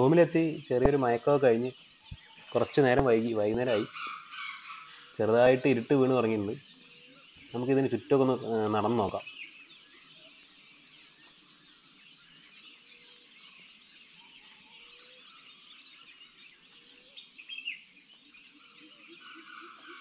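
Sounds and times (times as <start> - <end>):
birds and wildlife chirping: 0.0 - 20.0.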